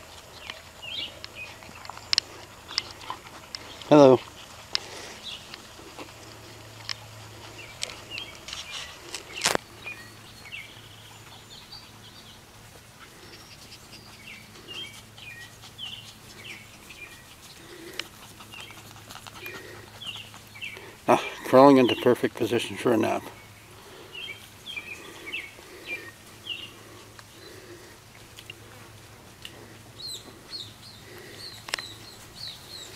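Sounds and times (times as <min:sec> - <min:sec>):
songbirds chirping: 0:00.0 - 0:32.9.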